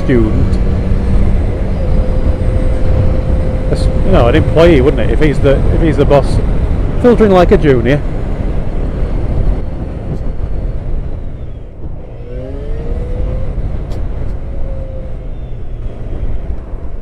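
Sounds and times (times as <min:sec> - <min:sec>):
motorcycle engine rumble: 0:00.0 - 0:17.0
wind: 0:00.0 - 0:17.0.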